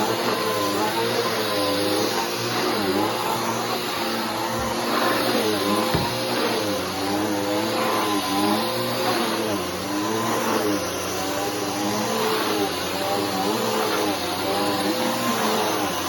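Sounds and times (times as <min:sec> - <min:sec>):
upright vacuum cleaner running: 0:00.0 - 0:16.0.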